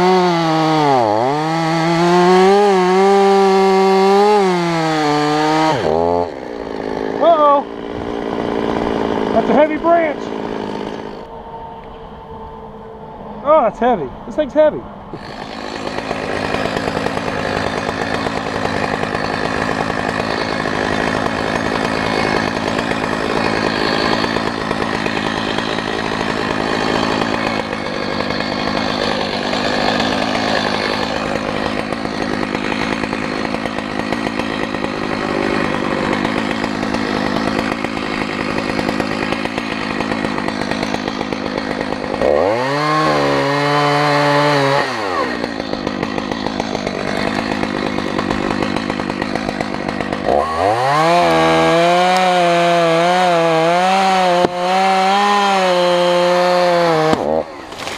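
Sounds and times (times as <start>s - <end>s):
chainsaw running and revving: 0.0s - 11.5s, 15.1s - 57.9s.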